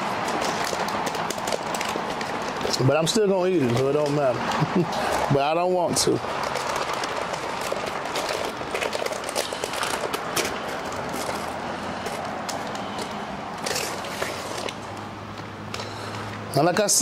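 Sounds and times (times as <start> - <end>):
greasy paper crinkling: 0.0 - 16.3.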